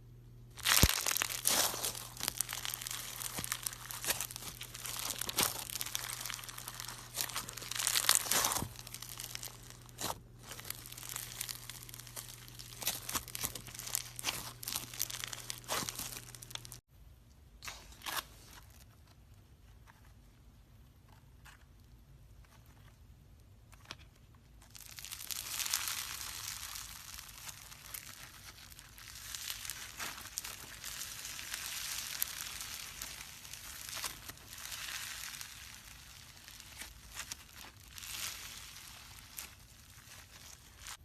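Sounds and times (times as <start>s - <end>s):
crunchy slime crackling: 0.5s - 16.9s, 21.0s - 41.0s.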